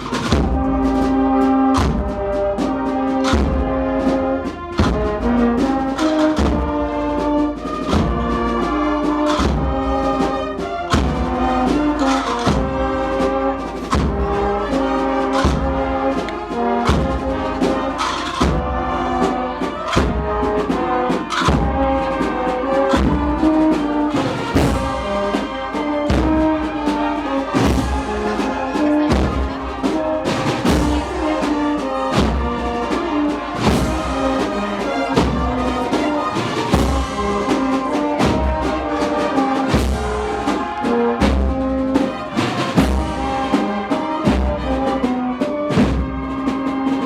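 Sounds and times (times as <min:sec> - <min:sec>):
brass band playing slow march: 0:00.0 - 0:47.0
heavy drum beat: 0:00.0 - 0:47.0.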